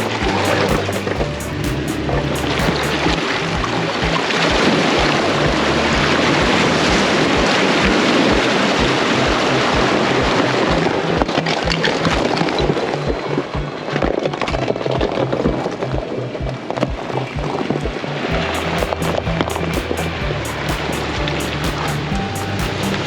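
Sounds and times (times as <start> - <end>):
dense wash of noise: 0.0 - 23.0
music with beat and bass: 0.0 - 23.0.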